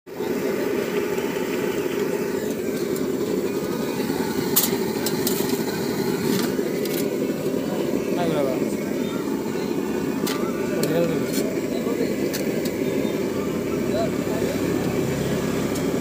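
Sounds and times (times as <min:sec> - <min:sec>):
engine-like rumble: 0:00.1 - 0:16.0.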